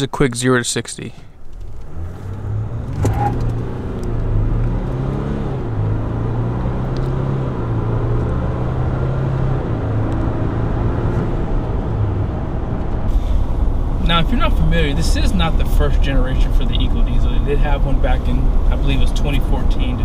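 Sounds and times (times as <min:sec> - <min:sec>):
diesel engine accelerating: 0:01.5 - 0:20.0.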